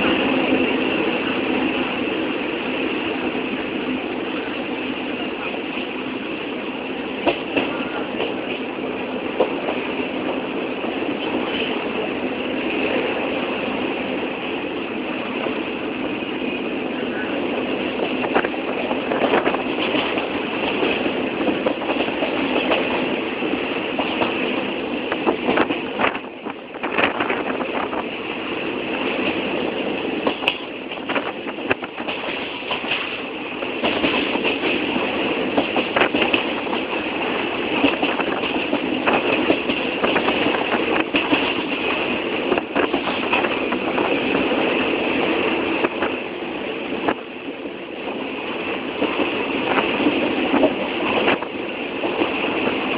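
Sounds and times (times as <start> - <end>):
train rattling on rails: 0.0 - 52.9.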